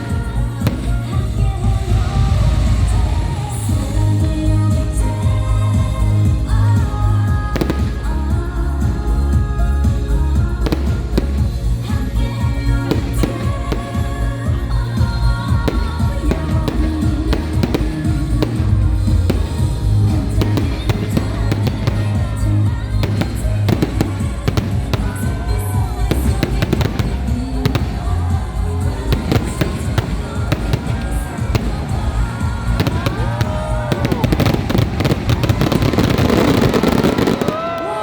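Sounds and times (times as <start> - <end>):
fireworks cracking and popping: 0.0 - 4.1, 7.6 - 8.9, 10.6 - 38.0
music playing: 0.0 - 38.0.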